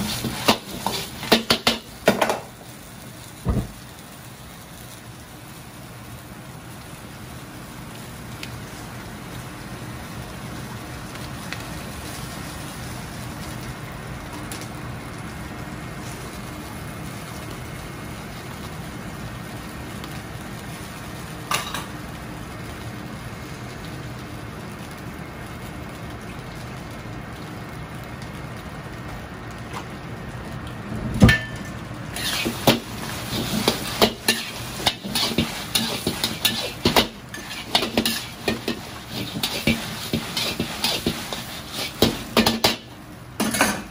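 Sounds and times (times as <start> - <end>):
gas range and ventilation rushing: 0.0 - 43.9.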